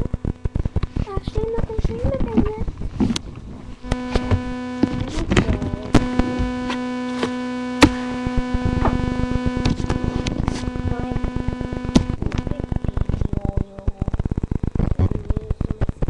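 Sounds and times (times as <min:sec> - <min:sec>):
steady electrical buzz: 0:00.0 - 0:16.0.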